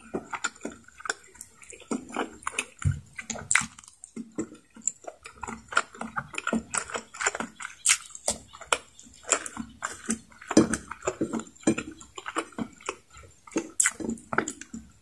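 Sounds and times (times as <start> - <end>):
wet chewing and lip smacks: 0.0 - 15.0.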